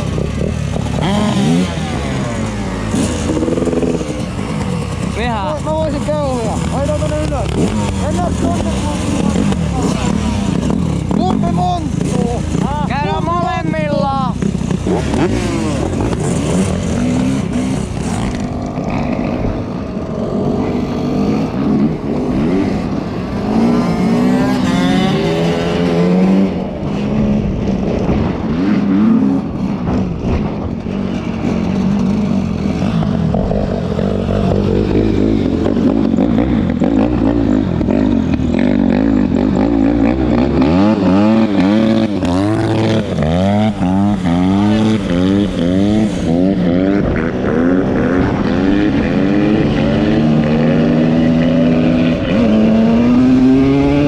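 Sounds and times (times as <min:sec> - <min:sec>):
dirt-bike engines revving: 0:00.0 - 0:54.0.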